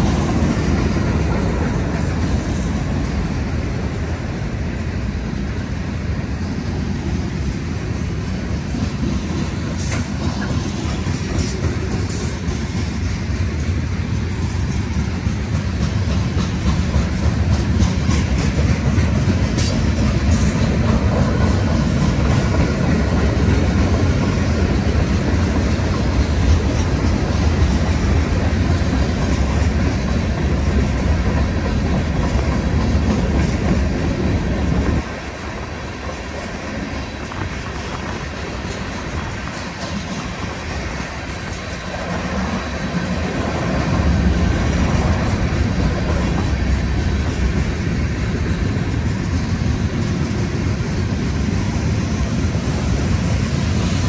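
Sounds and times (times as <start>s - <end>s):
clickety-clack of train cars: 0.0s - 54.0s
train wheels rumbling on rail: 0.0s - 54.0s.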